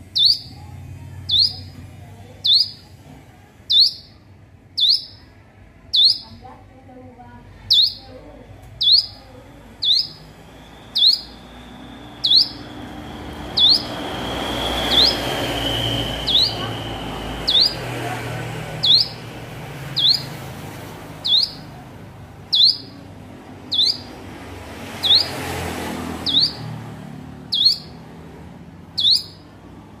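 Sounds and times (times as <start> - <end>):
low background rush: 0.0 - 30.0.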